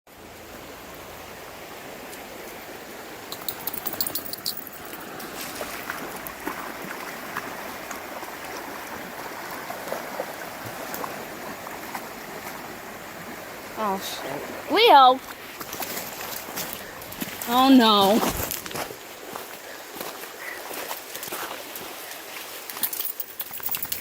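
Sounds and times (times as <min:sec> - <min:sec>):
river rushing: 0:00.1 - 0:24.0.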